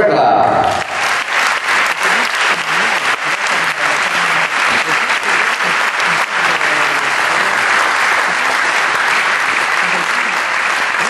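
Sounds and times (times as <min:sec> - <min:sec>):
audience clapping: 0:00.6 - 0:11.0
faint voices: 0:01.3 - 0:11.0.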